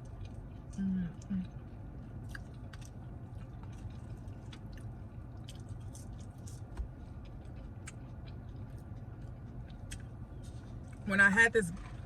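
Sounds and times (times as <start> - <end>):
chewing with mouth smacks: 0.0 - 11.0
steady low hum: 0.0 - 12.0.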